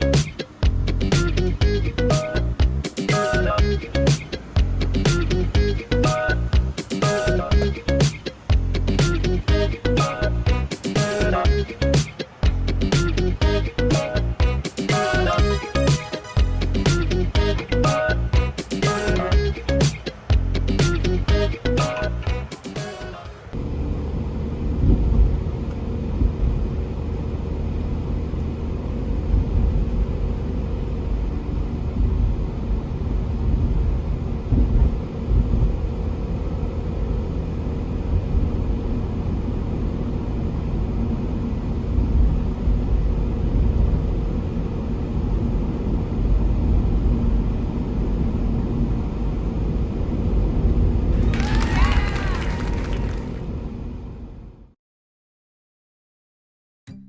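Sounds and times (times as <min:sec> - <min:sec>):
road rumble and engine noise: 0:00.0 - 0:54.7.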